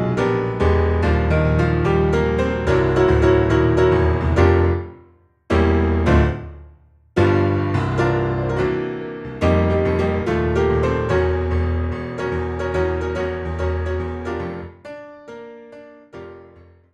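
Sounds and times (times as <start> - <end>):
piano chords: 0.0 - 16.8.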